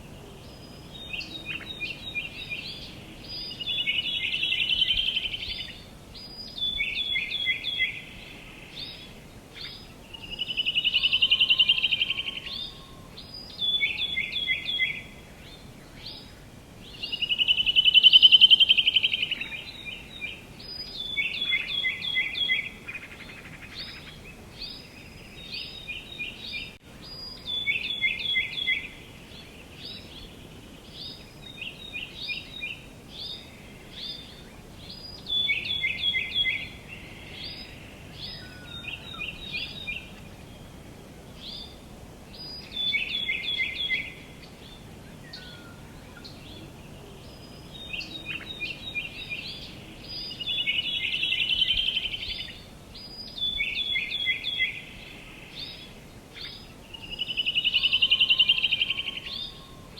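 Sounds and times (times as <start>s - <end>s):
outdoor ambience: 0.0s - 59.9s
songbirds singing: 0.0s - 59.9s.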